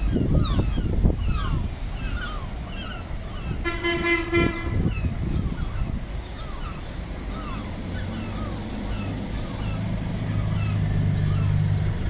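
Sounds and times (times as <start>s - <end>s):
diesel engine droning: 0.1s - 12.0s.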